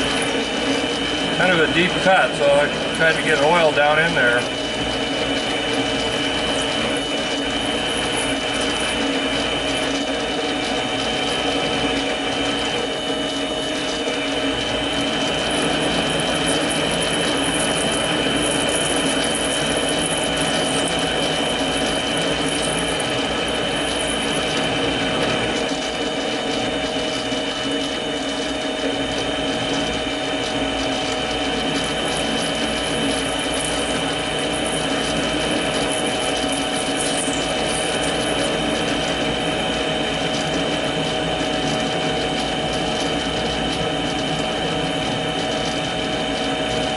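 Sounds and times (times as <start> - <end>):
lathe running with gear whine: 0.0 - 46.9.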